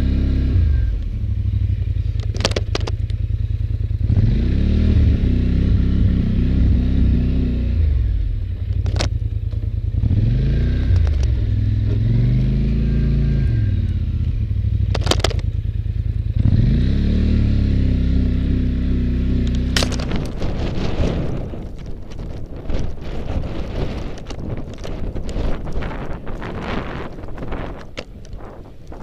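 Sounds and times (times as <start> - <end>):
engine revving under load: 0.0 - 1.7, 2.4 - 9.1, 9.8 - 29.0.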